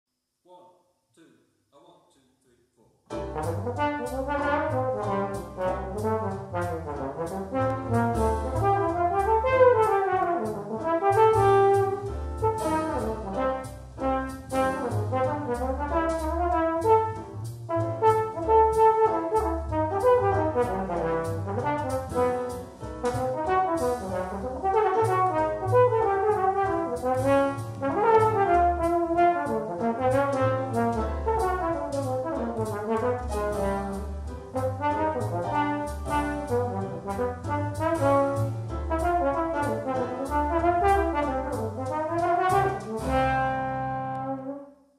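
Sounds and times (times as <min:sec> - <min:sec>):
steady ticking beat: 0:03.1 - 0:43.3
low accompaniment: 0:03.1 - 0:44.7
trombone playing jazz line: 0:03.1 - 0:44.8.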